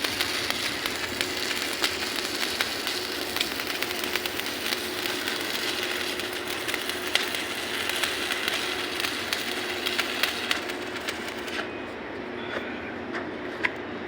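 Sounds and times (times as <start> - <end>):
arc welding crackle: 0.0 - 11.8.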